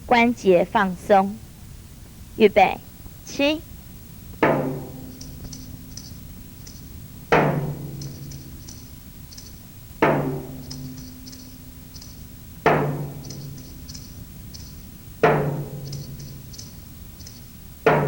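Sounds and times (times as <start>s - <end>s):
light high ticking percussion: 0.0s - 18.0s.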